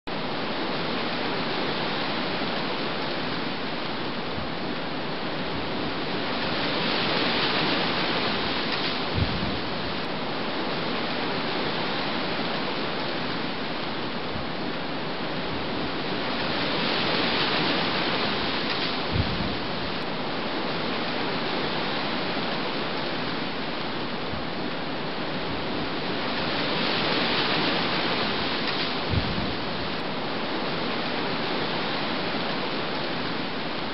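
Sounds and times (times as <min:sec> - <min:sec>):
wind: 0:00.0 - 0:33.9
rough sea: 0:00.1 - 0:33.9.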